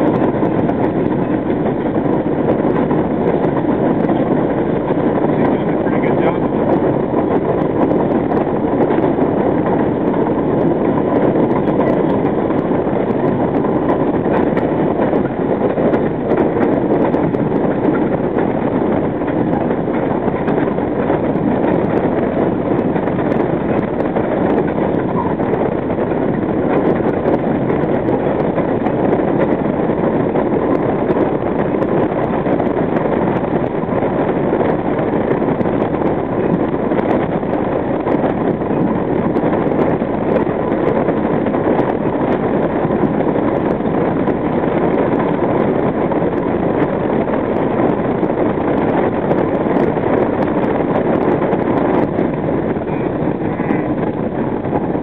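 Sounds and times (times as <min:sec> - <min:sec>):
subway train wheels on rails: 0:00.0 - 0:55.0.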